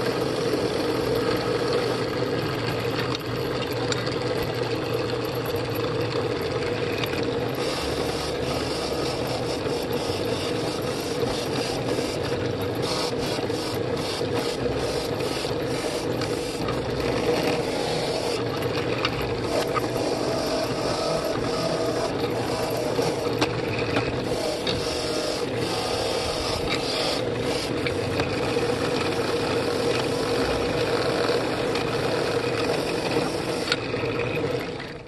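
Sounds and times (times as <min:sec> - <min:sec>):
drill press motor hum: 0:00.0 - 0:35.0.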